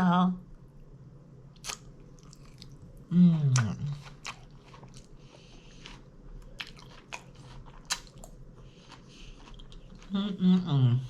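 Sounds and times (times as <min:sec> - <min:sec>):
chewing with crunches: 0:01.6 - 0:11.0.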